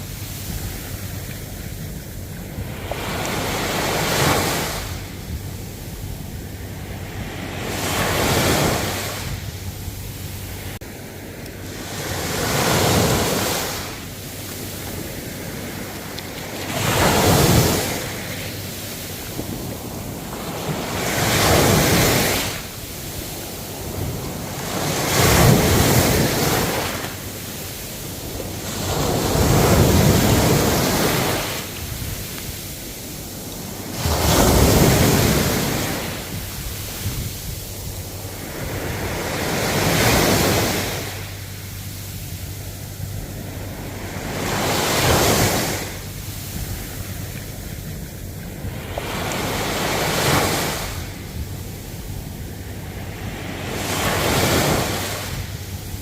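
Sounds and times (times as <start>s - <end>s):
ocean waves breaking: 0.0s - 56.0s
wind on microphone: 0.0s - 56.0s.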